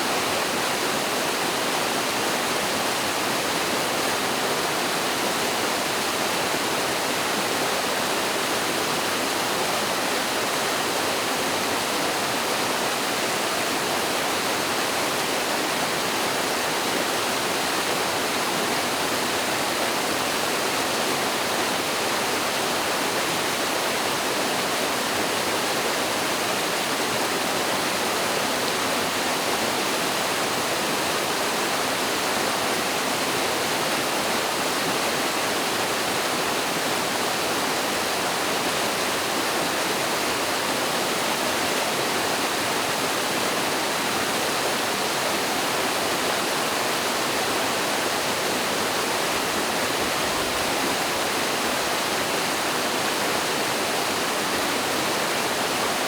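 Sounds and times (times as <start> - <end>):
stream pouring over waterfall: 0.0 - 56.0.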